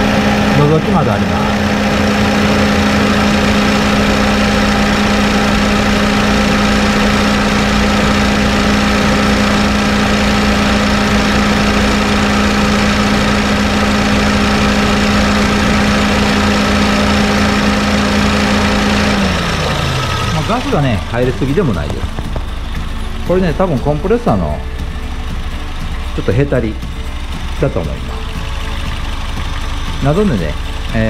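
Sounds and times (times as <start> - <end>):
car engine idling with loud hum: 0.0 - 31.0.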